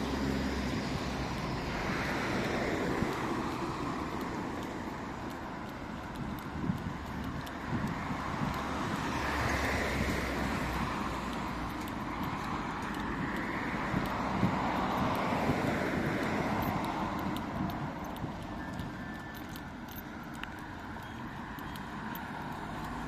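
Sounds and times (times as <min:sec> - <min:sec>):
road noise from passing vehicles: 0:00.0 - 0:23.0.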